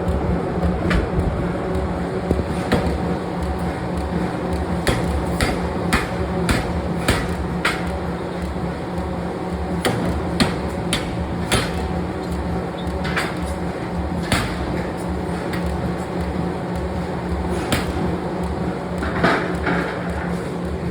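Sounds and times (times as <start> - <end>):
machinery humming: 0.0 - 20.9.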